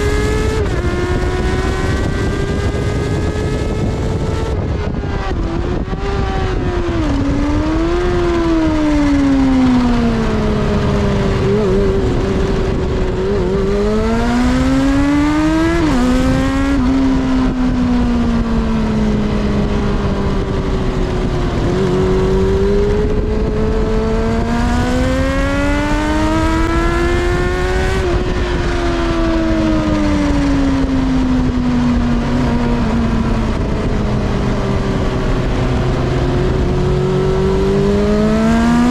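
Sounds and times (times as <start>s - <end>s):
motorcycle engine revving at speed: 0.0s - 38.9s
wind rush: 0.0s - 38.9s.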